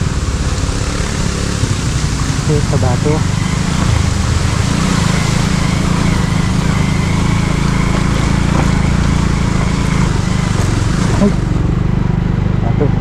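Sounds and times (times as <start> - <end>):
rushing wind noise: 0.0 - 12.0
motorcycle engine running: 0.0 - 13.0.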